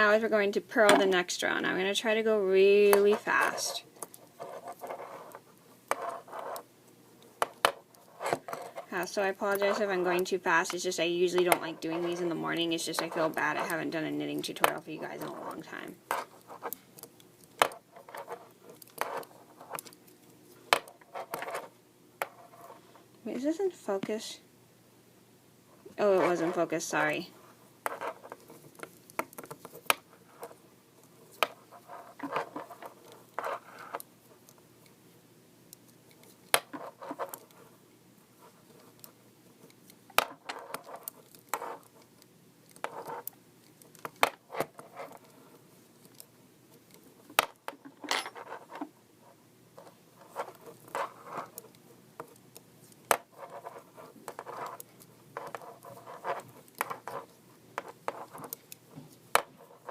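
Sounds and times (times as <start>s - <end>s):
knitting needles clicking and scraping: 0.8s - 24.2s, 25.8s - 35.0s, 35.7s - 59.9s.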